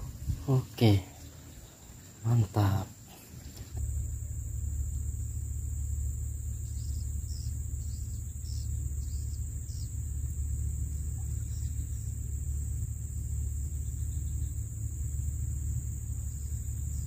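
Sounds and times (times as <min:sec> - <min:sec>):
insect chirps: 0:00.0 - 0:17.0
insect drone: 0:00.0 - 0:17.0
low steady rumble: 0:00.0 - 0:17.0.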